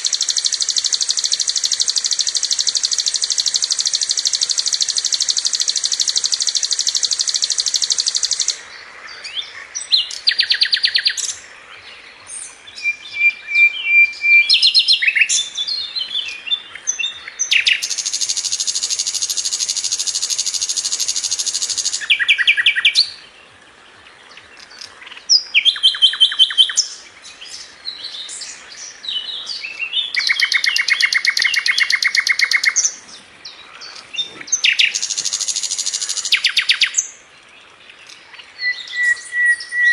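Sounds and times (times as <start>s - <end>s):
bird singing rapid trills: 0.0s - 23.4s, 24.0s - 39.9s.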